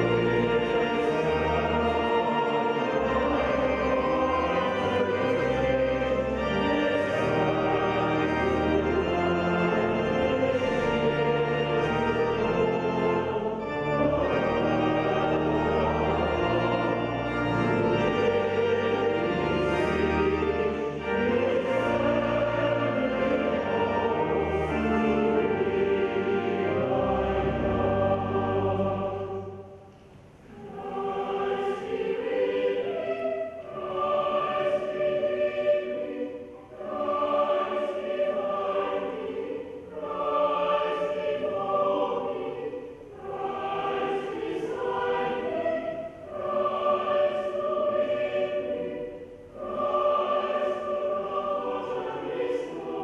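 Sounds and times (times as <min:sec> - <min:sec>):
choir singing: 0:00.0 - 0:53.0
organ playing sustained chords: 0:00.0 - 0:53.0.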